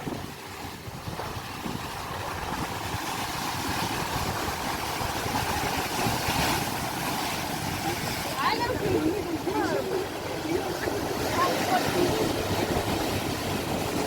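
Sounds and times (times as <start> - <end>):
sea waves surging: 0.0 - 14.0
wind rumble on microphone: 0.0 - 14.0.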